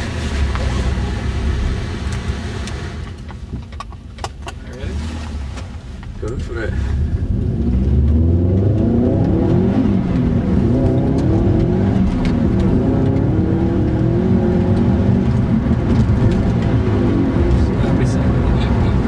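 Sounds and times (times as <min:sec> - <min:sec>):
car engine accelerating hard: 0:00.0 - 0:03.3, 0:04.6 - 0:19.0.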